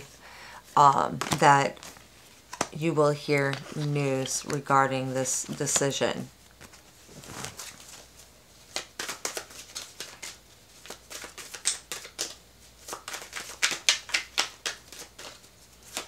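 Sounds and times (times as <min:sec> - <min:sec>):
cards shuffled by hand: 0:01.1 - 0:16.0.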